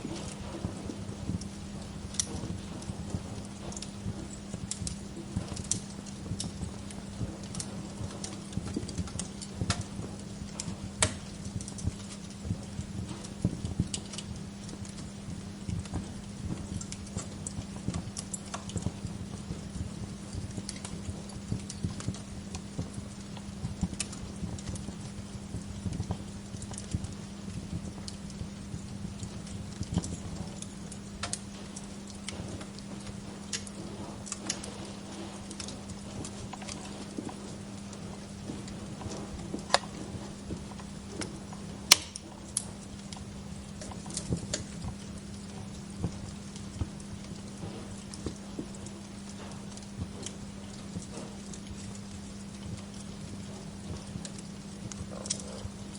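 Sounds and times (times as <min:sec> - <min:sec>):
steady low hum: 0:00.0 - 0:55.9
wood fire crackling and popping: 0:00.0 - 0:55.9.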